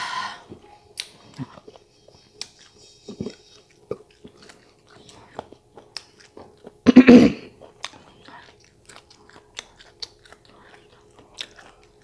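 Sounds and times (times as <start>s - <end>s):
person chewing with wet smacks: 0.5s - 6.9s, 7.5s - 12.0s.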